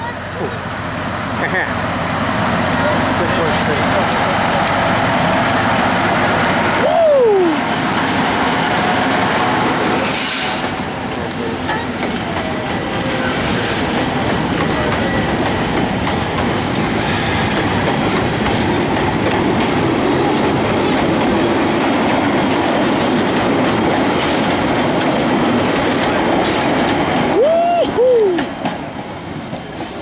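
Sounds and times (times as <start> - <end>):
train wheels clattering on rails: 0.0 - 30.0.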